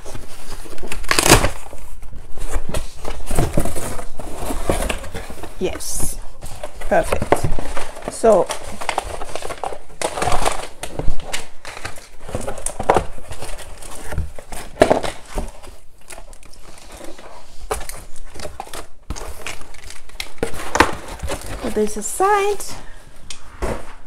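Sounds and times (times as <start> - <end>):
packaging rustling and crinkling: 0.0 - 24.0.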